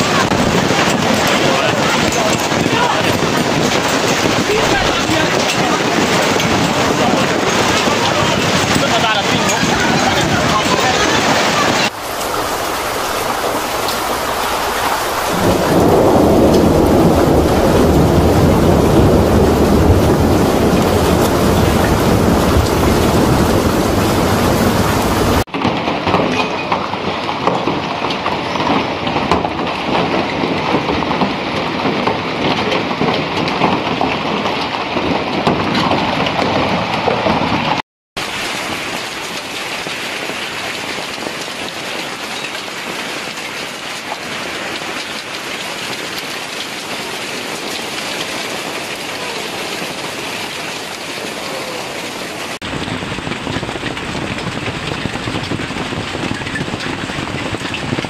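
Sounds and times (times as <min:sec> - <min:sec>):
hail pattering on pavement: 0:00.0 - 0:58.0.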